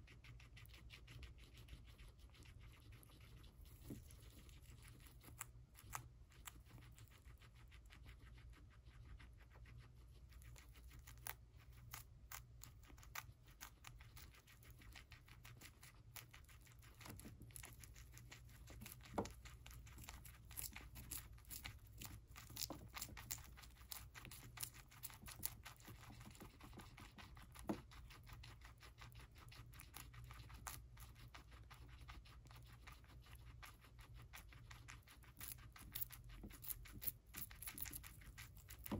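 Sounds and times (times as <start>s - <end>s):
guinea pigs chewing celery: 0.0s - 38.9s.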